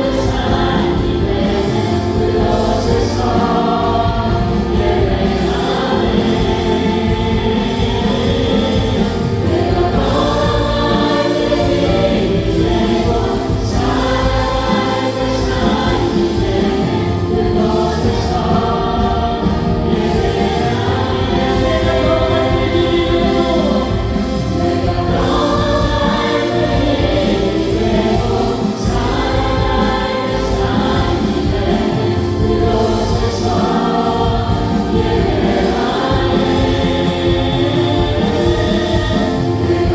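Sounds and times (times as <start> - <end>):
bass guitar: 0.0 - 39.9
drums: 0.0 - 39.9
keyboards and synthesizer: 0.0 - 39.9
many voices singing together: 0.0 - 39.9.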